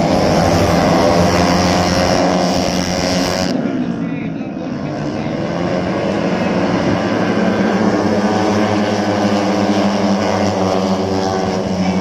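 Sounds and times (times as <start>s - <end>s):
racing motorcycle engines at high revs: 0.0s - 12.0s.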